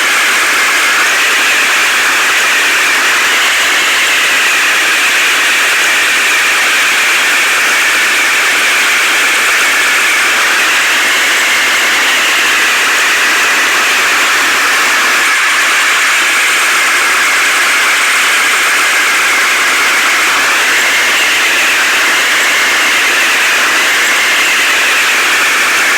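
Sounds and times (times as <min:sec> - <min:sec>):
heavy machine engine running: 0:00.0 - 0:25.9.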